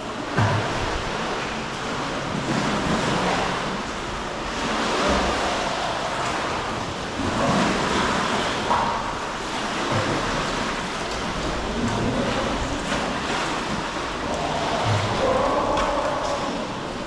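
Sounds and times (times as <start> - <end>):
sea water surging against rock: 0.0 - 17.0.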